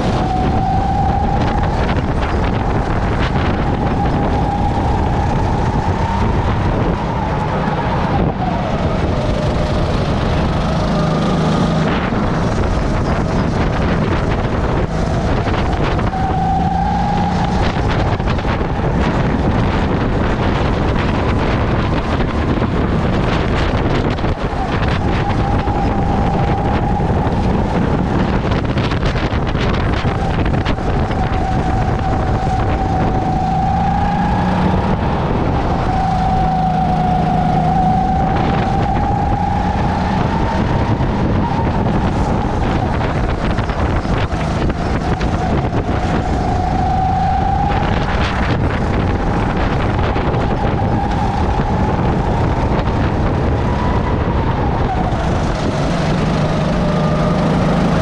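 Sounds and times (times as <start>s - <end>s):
kart engine running hard: 0.0s - 58.0s
wind noise on microphone: 0.0s - 58.0s.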